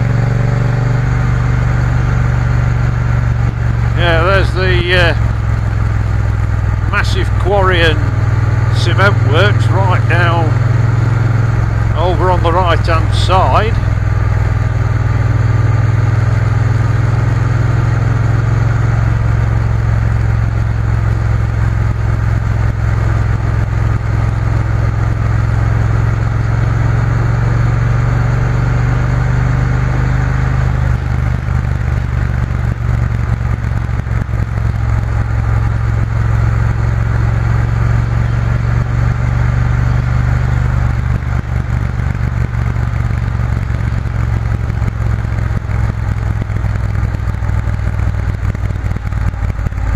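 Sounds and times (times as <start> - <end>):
motorcycle engine running: 0.0 - 49.9
road noise: 0.0 - 49.9.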